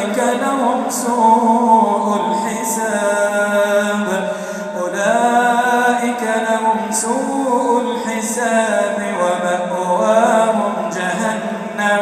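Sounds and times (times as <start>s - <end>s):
man chanting melodic recitation: 0.0s - 12.0s.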